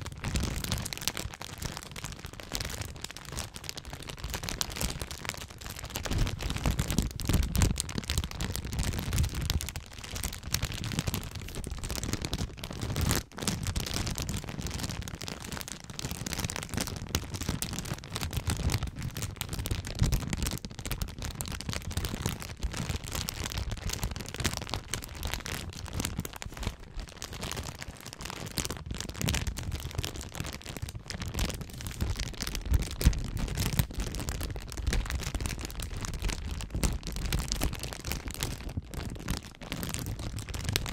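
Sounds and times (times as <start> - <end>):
plastic bag crinkling: 0.0 - 40.9.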